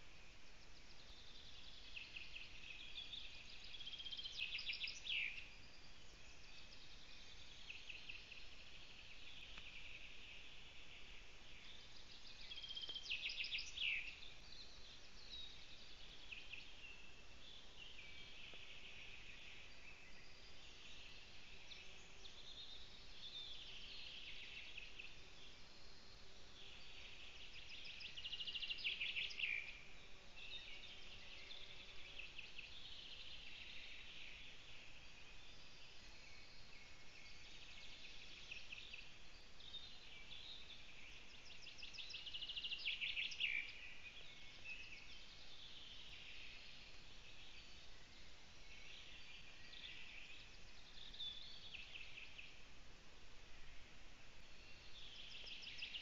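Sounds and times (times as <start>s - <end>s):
faint outdoor hiss: 0.0s - 56.0s
songbirds singing: 0.0s - 56.0s.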